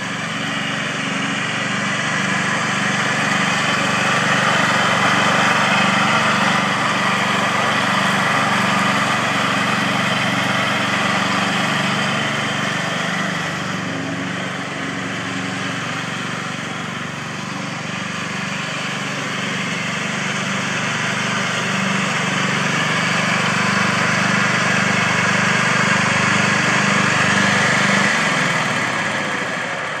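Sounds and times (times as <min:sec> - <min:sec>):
riding mower running: 0:00.0 - 0:30.0.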